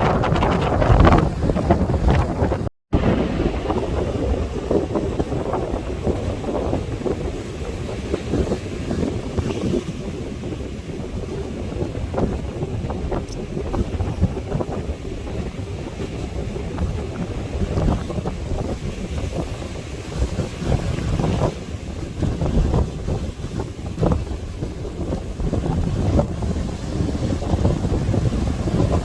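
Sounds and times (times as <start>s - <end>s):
ocean waves: 0.0s - 29.0s
wind buffeting microphone: 0.0s - 29.0s.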